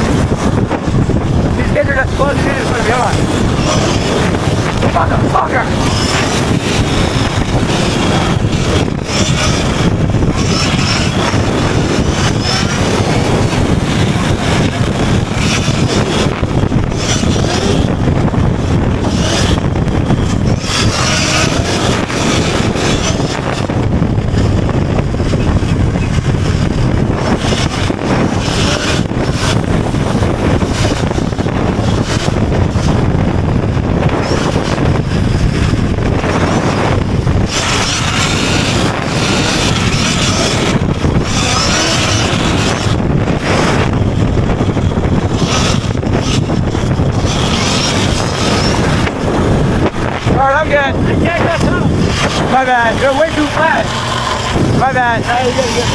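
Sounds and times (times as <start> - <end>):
road noise: 0.0 - 55.9
wind rushing on microphone: 0.0 - 55.9.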